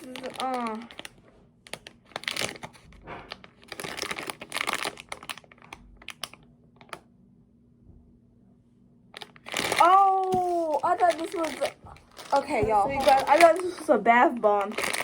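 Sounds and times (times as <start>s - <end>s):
plastic packaging crinkling: 0.0s - 7.0s, 9.2s - 15.0s.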